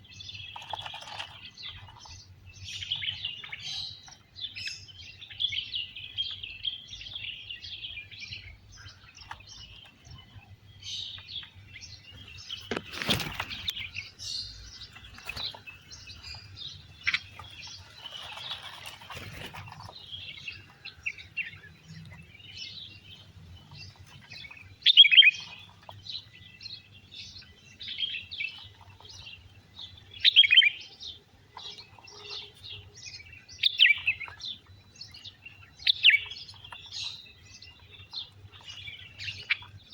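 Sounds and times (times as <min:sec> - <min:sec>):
birds chirping: 0:00.0 - 0:39.9
sharp bird calls: 0:00.0 - 0:39.9
rustle: 0:00.1 - 0:05.8, 0:12.0 - 0:39.9.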